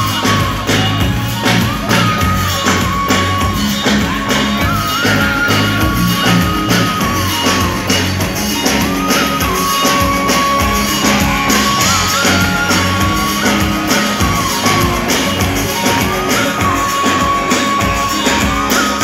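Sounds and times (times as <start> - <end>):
drums and guitar beat: 0.0 - 19.0
live pop band music: 0.0 - 19.0.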